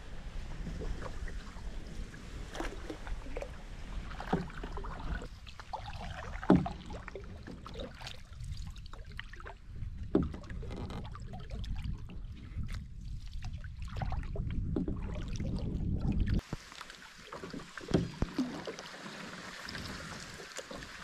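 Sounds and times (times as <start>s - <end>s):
paddle strokes splashing water: 0.0s - 21.0s.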